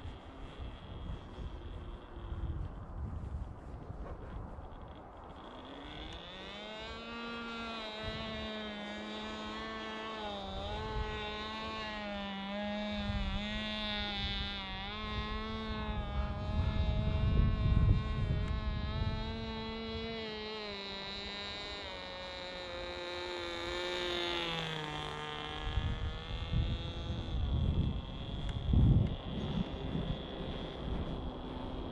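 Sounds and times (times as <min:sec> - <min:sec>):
model plane motor buzzing: 0:00.0 - 0:31.9
wind rumbling on microphone: 0:00.0 - 0:31.9.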